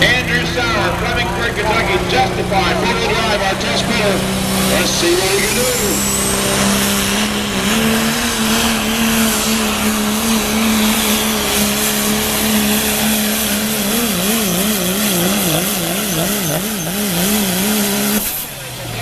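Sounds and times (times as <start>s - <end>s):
truck engine at full throttle: 0.0s - 19.0s.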